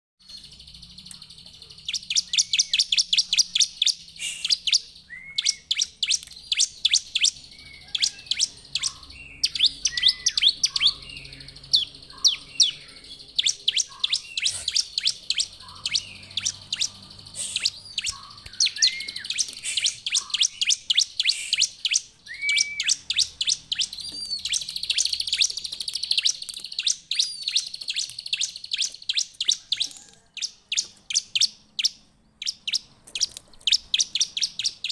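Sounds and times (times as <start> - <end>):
bird singing high rapid chirps: 0.2 - 34.9.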